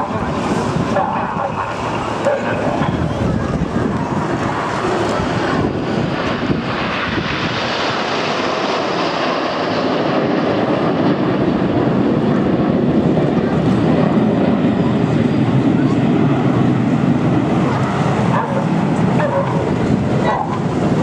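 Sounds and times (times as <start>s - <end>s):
aircraft engine drone: 0.0s - 21.0s.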